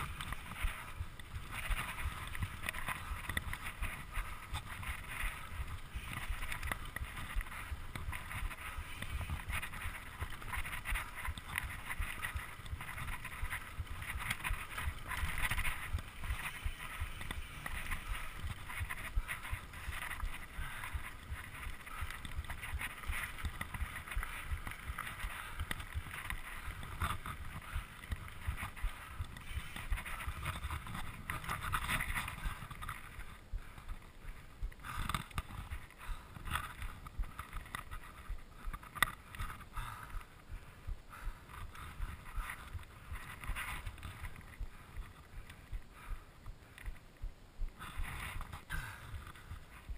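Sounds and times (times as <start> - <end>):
bike tyres rumbling on dirt: 0.0 - 46.2
bike rattling with small clicks: 0.0 - 49.9.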